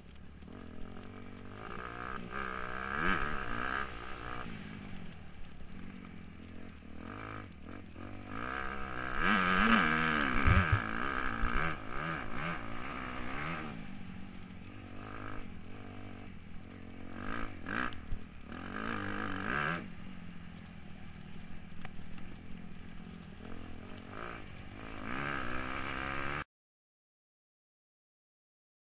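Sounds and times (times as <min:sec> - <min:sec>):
motocross bike engine revving: 0:00.4 - 0:26.5.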